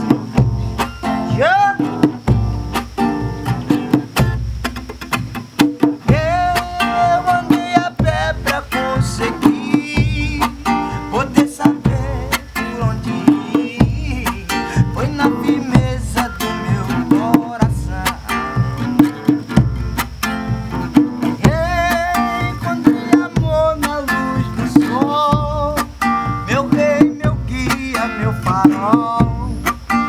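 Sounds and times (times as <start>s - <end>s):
plucked guitar: 0.0s - 30.0s
steady drum beat: 0.0s - 30.0s.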